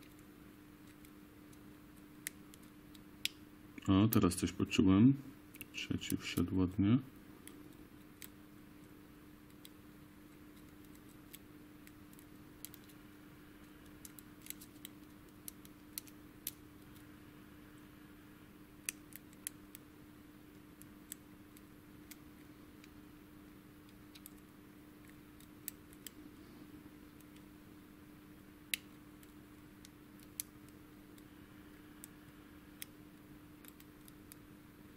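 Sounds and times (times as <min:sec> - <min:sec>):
steady hum: 0:00.0 - 0:34.9.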